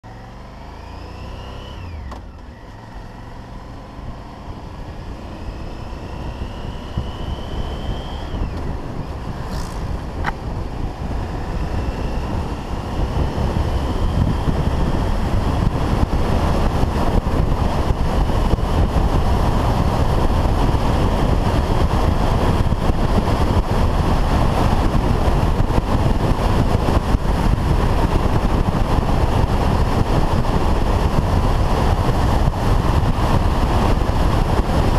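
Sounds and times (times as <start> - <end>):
motorcycle engine accelerating: 0.0 - 34.9
wind rushing over microphone: 1.4 - 34.9.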